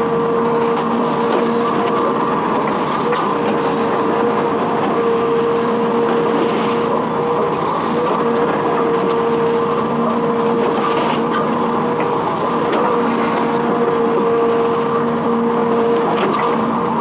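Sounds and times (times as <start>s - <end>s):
excavator diesel engine running: 0.0s - 17.0s
steady whine: 0.0s - 17.0s.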